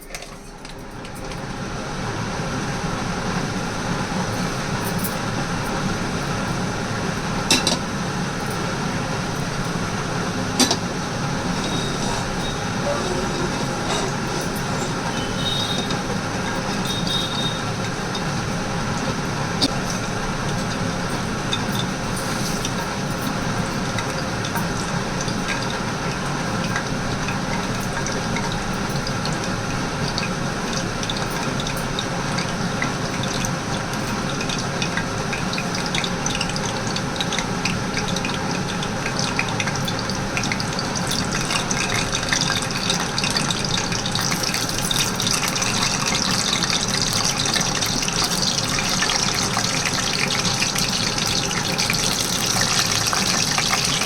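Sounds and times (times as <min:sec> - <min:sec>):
water running from tap: 0:00.0 - 0:54.0.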